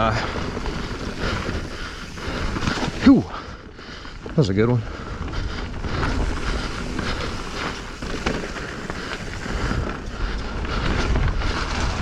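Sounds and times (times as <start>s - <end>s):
bike chain and frame rattling: 0.0s - 12.0s
bike tyres on dirt trail: 0.0s - 12.0s
wind rumbling on microphone: 0.0s - 12.0s.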